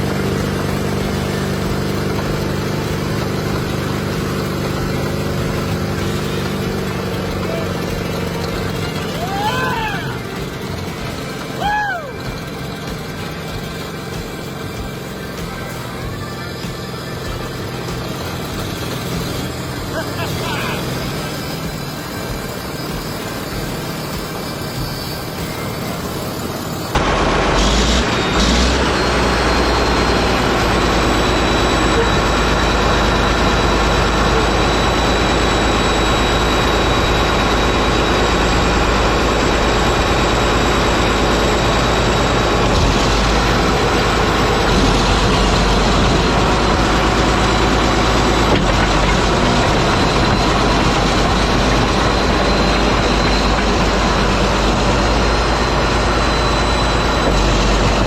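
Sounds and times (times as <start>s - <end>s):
bulldozer engine running: 0.0s - 58.0s.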